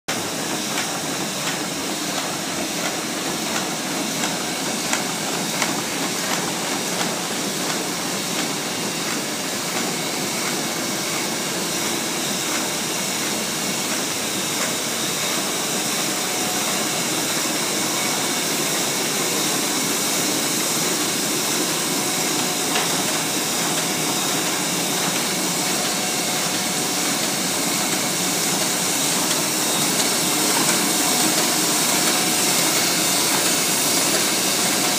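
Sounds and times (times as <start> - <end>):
printing press running: 0.1 - 34.9.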